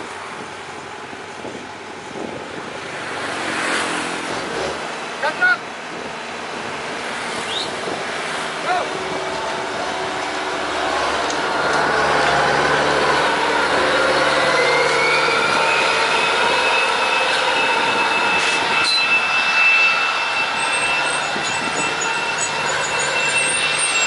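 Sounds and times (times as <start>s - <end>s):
jet engines roaring: 2.2s - 24.0s.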